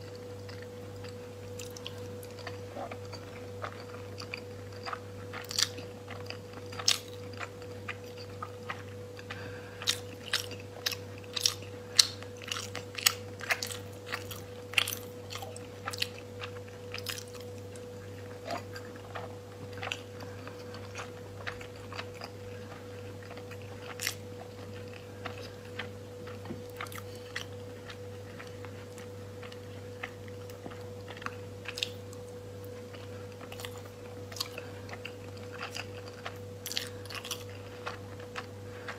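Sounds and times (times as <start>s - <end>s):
faint steady hum: 0.0s - 38.9s
person chewing food: 0.0s - 38.9s.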